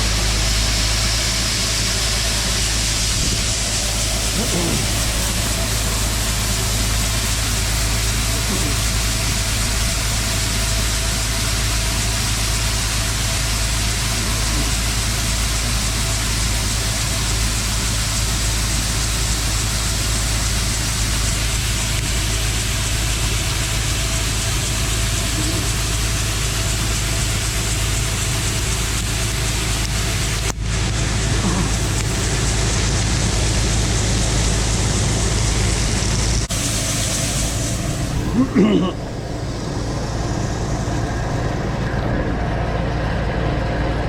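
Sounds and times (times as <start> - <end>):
combine harvester droning: 0.0 - 44.0.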